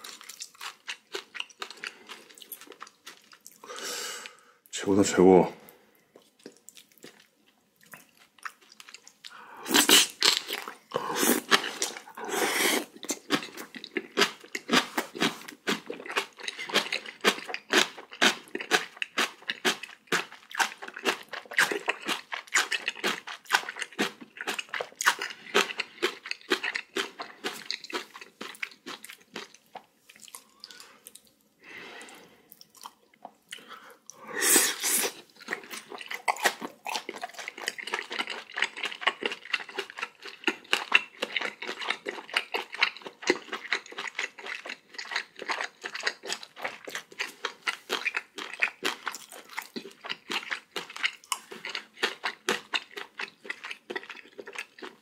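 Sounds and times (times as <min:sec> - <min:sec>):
person chewing crunchy food: 0:00.0 - 0:04.4, 0:06.1 - 0:55.0.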